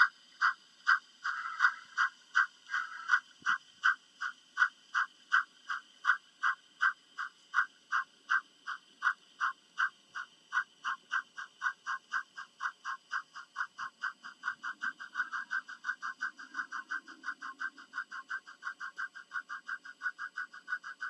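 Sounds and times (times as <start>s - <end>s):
model train steam chuffs: 0.0s - 21.0s.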